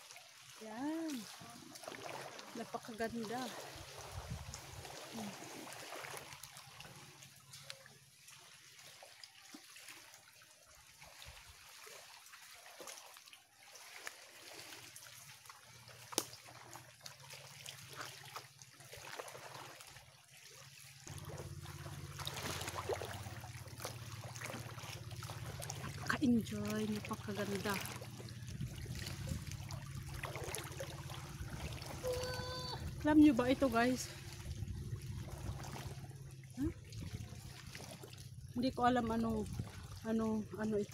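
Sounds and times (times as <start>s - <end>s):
water lapping among rocks: 0.0s - 40.9s.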